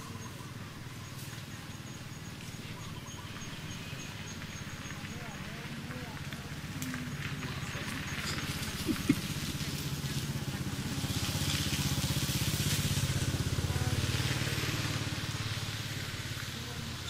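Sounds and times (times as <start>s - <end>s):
small engine puttering: 0.0s - 17.0s.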